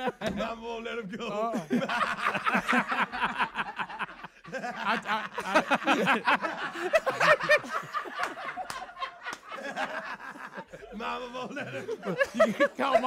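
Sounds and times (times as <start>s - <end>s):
men laughing: 0.0s - 13.0s.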